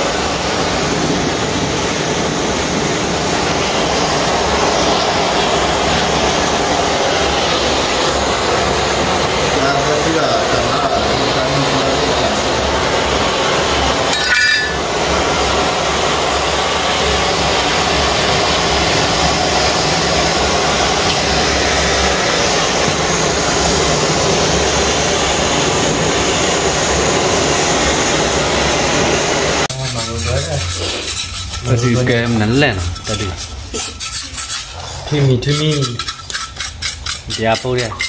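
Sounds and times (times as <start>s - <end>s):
blowtorch hissing: 0.0s - 38.0s.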